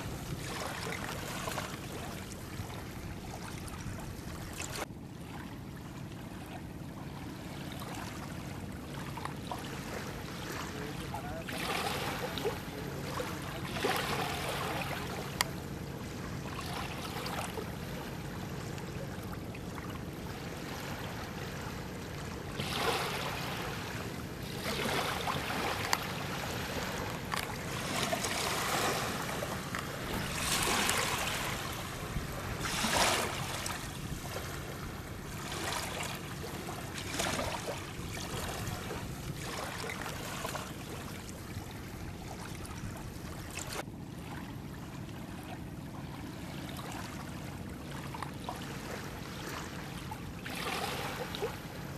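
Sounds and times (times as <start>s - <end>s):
water splashing around boat: 0.0s - 51.9s.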